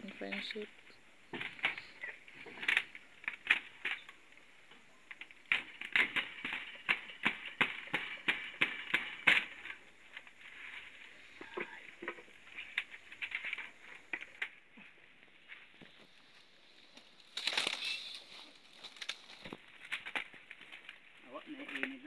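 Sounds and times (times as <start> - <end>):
bamboo panel crackling and snapping: 0.2 - 22.0.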